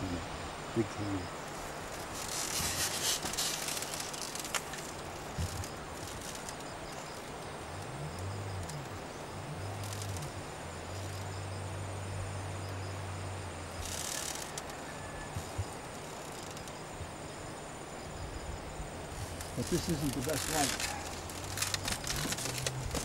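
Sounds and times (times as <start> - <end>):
insects chirring: 0.0 - 23.0
steady hiss: 0.0 - 23.0.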